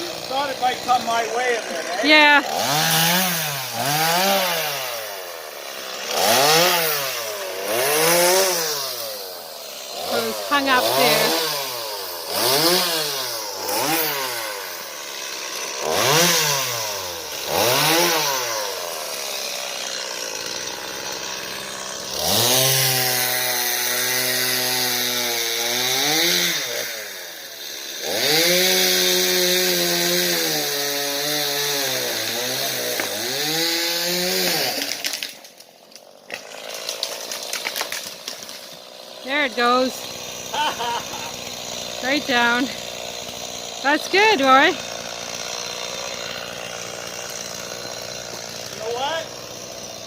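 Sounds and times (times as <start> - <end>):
chainsaw revving and cutting: 0.0 - 50.0.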